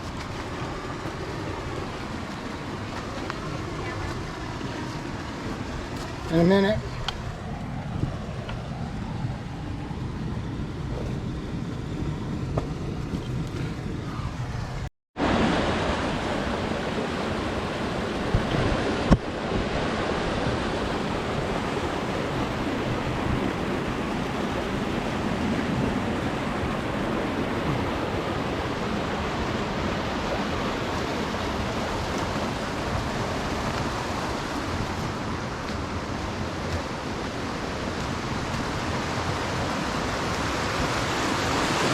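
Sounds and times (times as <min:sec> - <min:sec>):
rushing water: 0:00.0 - 0:41.9.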